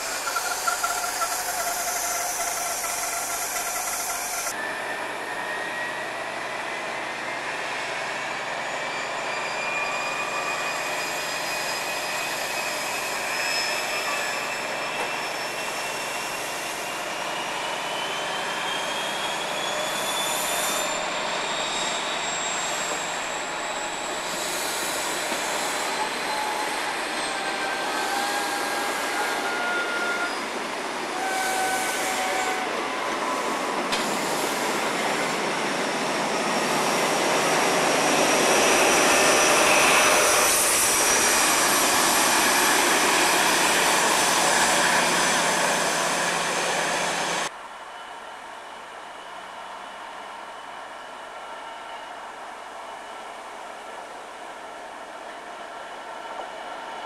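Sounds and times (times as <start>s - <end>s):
high wheel squeal: 0.0s - 47.5s
diesel locomotive passing: 0.0s - 57.0s
train coaches rumbling on rails: 0.0s - 57.0s.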